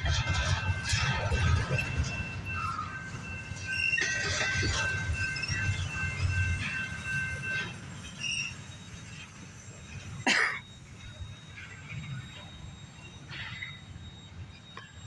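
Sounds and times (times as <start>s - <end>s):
steel wheels squealing: 0.0s - 15.0s
train rumble: 0.0s - 15.0s.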